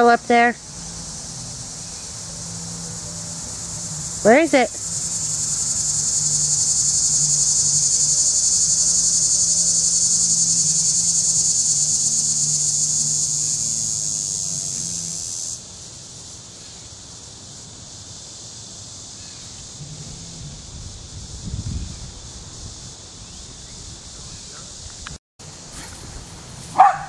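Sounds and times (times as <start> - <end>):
cicada buzzing: 0.0 - 27.0.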